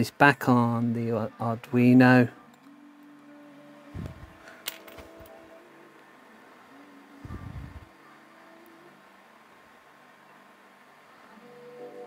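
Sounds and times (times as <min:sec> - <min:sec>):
faint steady hiss: 0:00.0 - 0:12.0
soft background music: 0:00.0 - 0:12.0.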